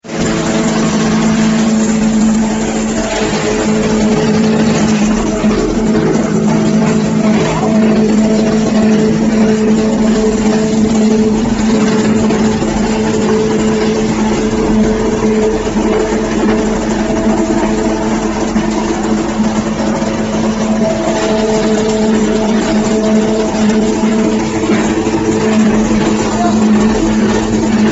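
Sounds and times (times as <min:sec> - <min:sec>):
hay grinding machine running: 0:00.0 - 0:27.9.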